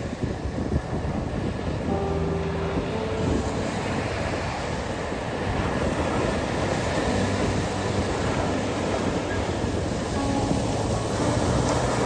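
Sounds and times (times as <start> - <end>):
waves washing onto beach: 0.0 - 12.0.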